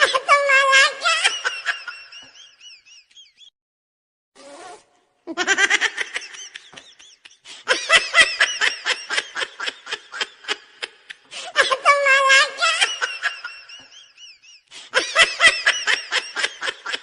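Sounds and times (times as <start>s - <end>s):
person laughing: 0.0s - 3.5s, 5.3s - 17.0s.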